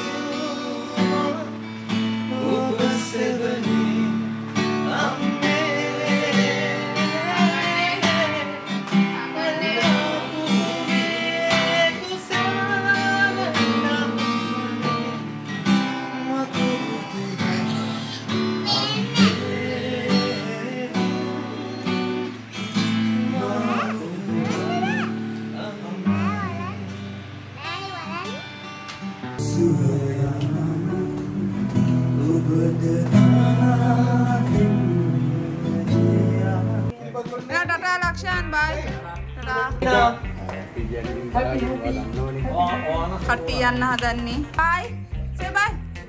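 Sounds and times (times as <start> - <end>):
man singing: 0.0 - 27.6, 29.2 - 44.0
acoustic guitar strumming: 0.0 - 46.0.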